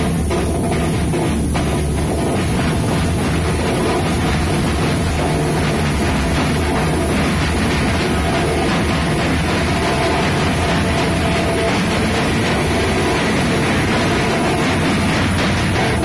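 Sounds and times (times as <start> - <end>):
loud music: 0.0 - 16.0.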